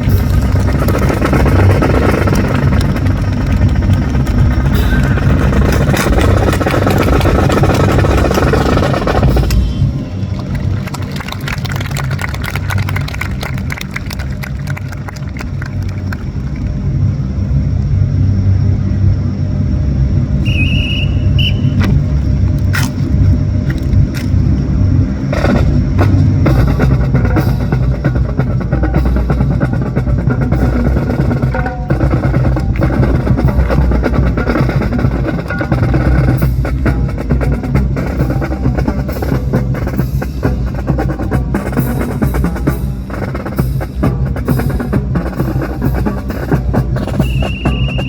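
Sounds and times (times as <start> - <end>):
drum and percussion music: 0.0 - 17.1, 20.6 - 48.0.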